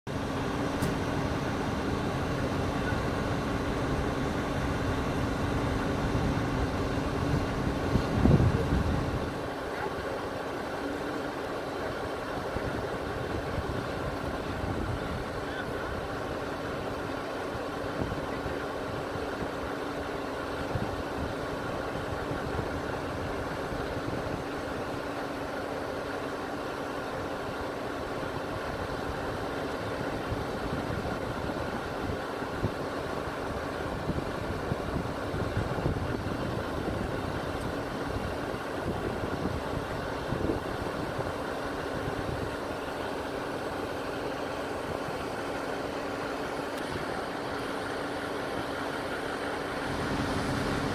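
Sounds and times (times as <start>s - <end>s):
diesel engines idling: 0.1s - 50.9s.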